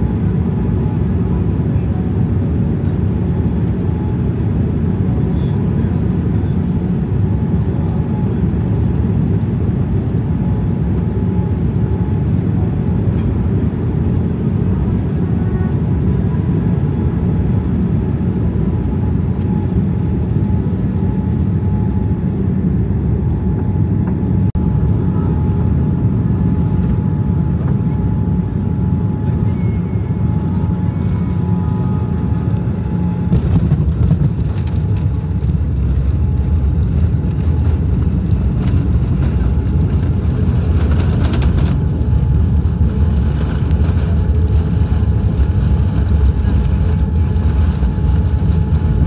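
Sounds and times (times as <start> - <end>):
airliner engines rumbling in cabin: 0.0 - 49.0.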